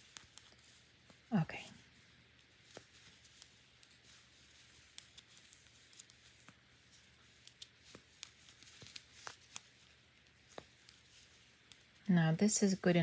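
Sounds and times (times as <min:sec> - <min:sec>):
knitting needles clicking: 0:00.0 - 0:01.3, 0:02.3 - 0:12.1
yarn rustling: 0:00.0 - 0:13.0.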